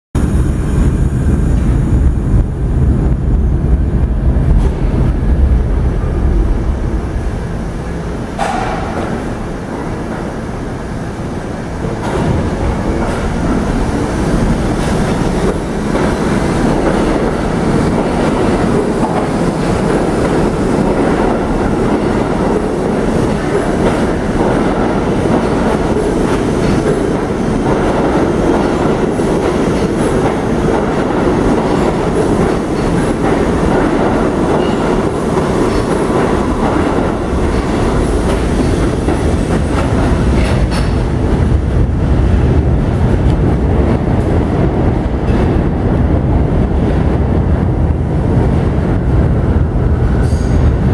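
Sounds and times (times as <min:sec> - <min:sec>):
subway train wheels rumbling: 0:00.1 - 0:50.9.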